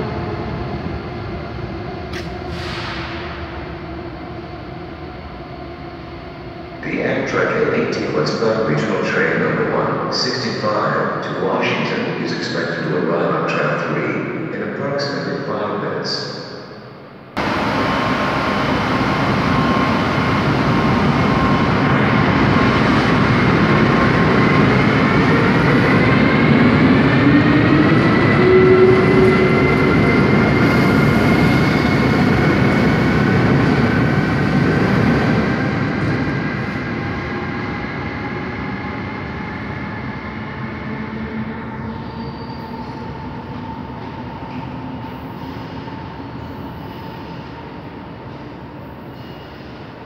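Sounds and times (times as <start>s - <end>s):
train wheel and rail noise: 0.0s - 50.0s.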